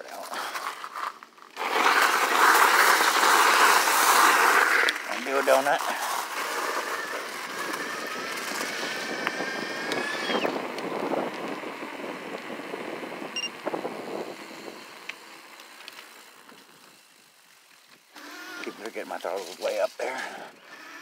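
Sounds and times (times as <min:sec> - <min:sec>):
tyre rolling noise: 0:00.0 - 0:17.1
electric bike motor whining: 0:01.5 - 0:19.6, 0:20.4 - 0:21.0.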